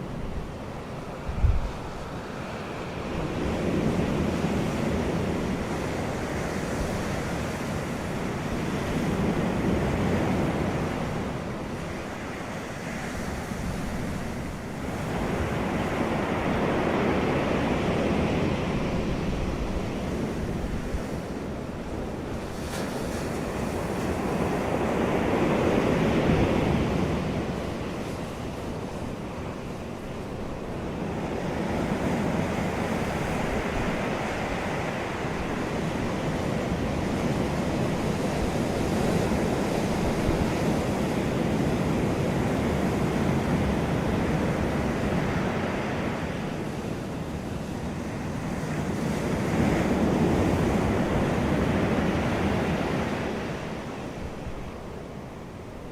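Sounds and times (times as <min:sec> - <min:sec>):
surf waves washing in: 0:00.0 - 0:55.9
wind buffeting microphone: 0:00.0 - 0:55.9.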